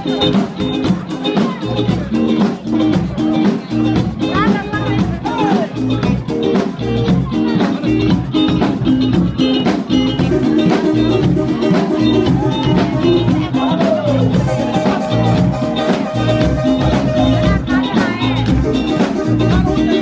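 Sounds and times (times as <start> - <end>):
electric guitar: 0.0 - 20.0
hand drums steady beat: 0.0 - 20.0.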